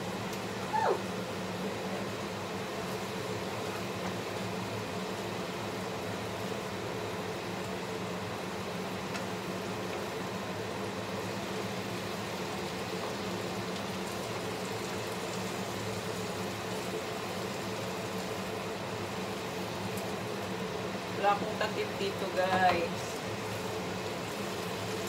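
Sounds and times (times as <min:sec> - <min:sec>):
chicken sizzling in a frying pan: 0:00.0 - 0:25.0
range hood fan humming: 0:00.0 - 0:25.0.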